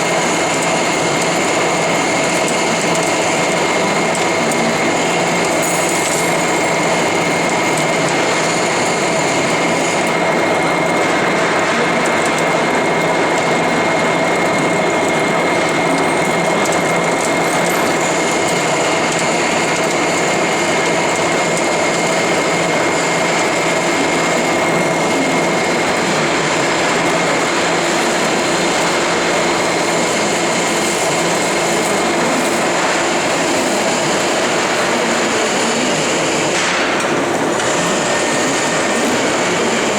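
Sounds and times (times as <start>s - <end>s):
lathe running with high whine: 0.0s - 39.9s.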